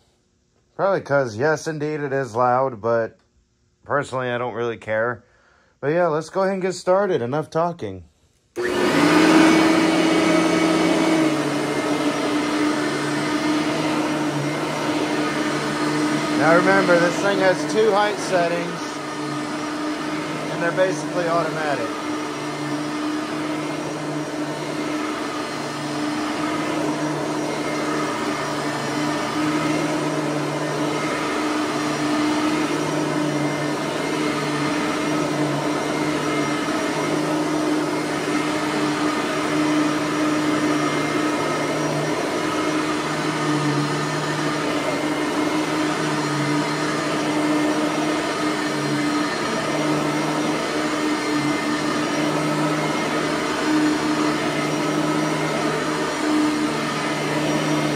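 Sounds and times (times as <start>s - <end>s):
vacuum cleaner motor hum: 8.6s - 57.9s.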